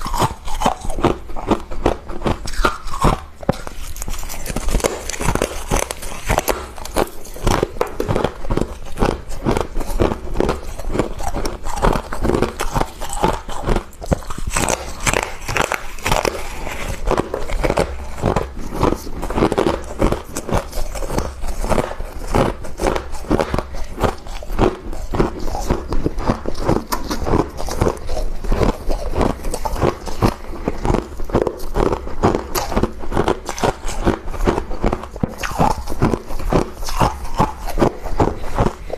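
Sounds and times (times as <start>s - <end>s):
crunching freezer frost: 0.0s - 38.9s.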